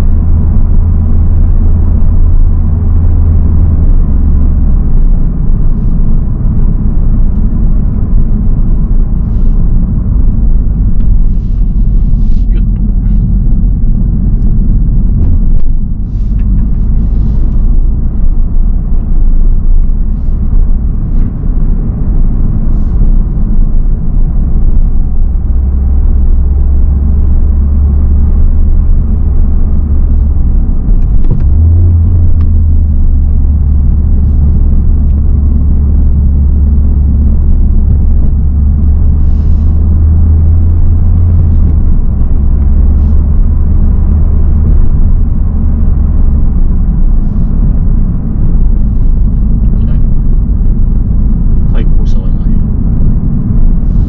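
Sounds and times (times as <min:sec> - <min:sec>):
car engine drone: 0:00.0 - 0:54.0
road noise: 0:00.0 - 0:54.0.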